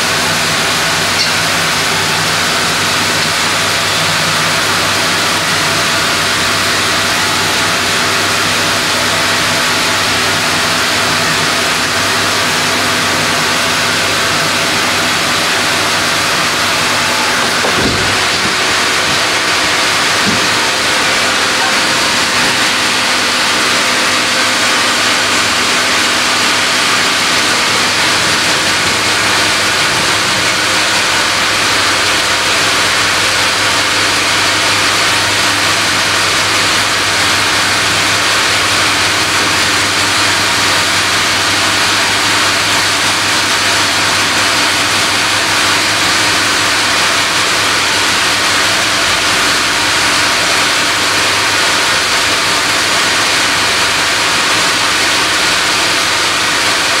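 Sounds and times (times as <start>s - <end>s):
machinery low hum: 0.0s - 57.0s.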